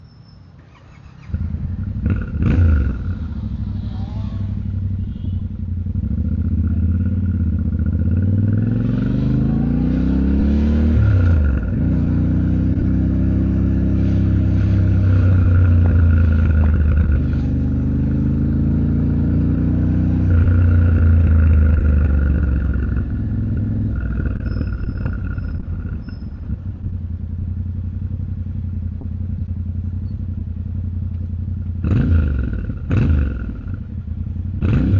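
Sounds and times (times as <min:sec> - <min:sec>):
road and wind noise: 0:00.0 - 0:34.9
motorcycle engine revving: 0:00.6 - 0:34.9.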